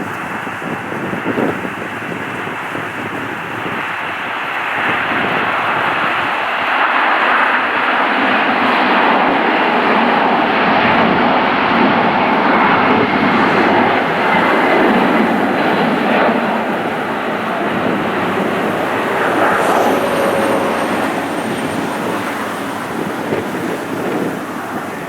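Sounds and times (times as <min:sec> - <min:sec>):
airliner engines running: 0:00.0 - 0:25.0.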